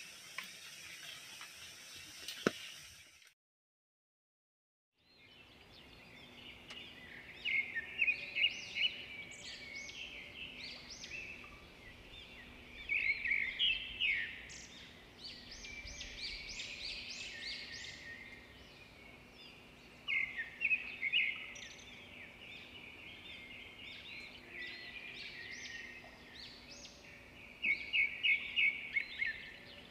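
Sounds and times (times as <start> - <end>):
robin singing: 5.0 - 29.9.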